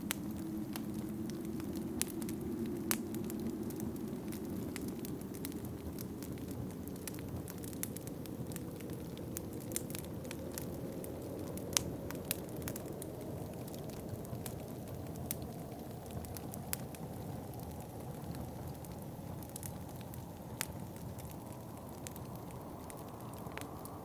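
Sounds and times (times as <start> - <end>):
low rush of wind: 0.0 - 24.0
wood fire crackling and popping: 0.0 - 24.0.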